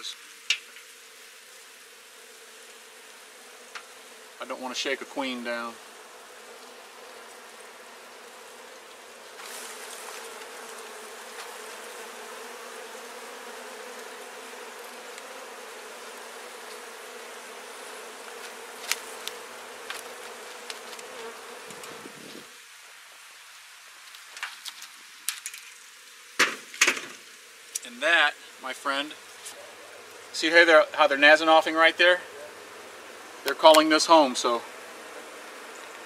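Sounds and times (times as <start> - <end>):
honeybee colony buzzing: 0.0 - 36.0.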